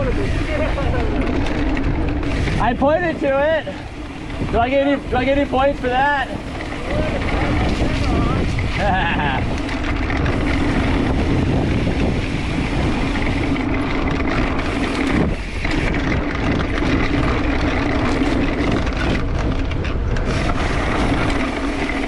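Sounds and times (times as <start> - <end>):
bike tyres rolling on dirt: 0.0 - 22.0
wind rushing over microphone: 0.0 - 22.0.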